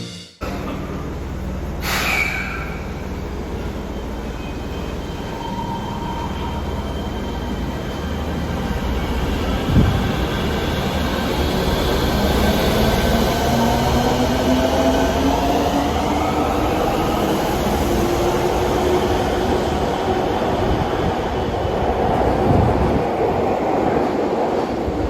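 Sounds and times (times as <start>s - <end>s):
subway train jet-like noise: 0.4s - 25.0s.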